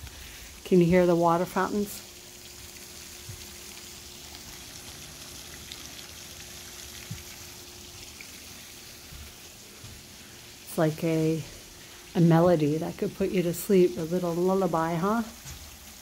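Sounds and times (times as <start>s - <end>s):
faint steady hum: 0.0s - 16.0s
fountain water splashing: 0.0s - 16.0s.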